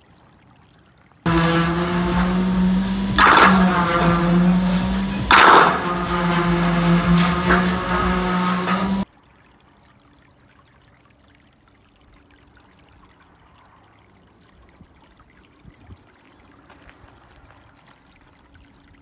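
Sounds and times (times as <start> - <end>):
small water splashes: 0.0 - 19.0
water trickling over stones: 0.0 - 19.0.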